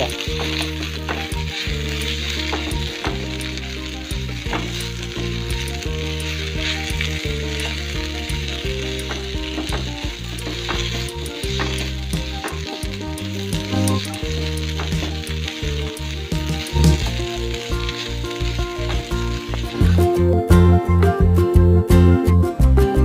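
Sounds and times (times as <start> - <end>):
food sizzling in a frying pan: 0.0 - 20.6
background music: 0.0 - 23.0.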